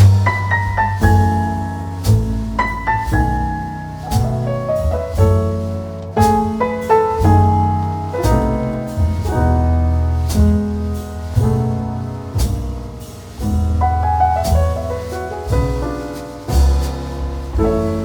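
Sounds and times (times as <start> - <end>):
piano-led instrumental music: 0.0 - 18.0.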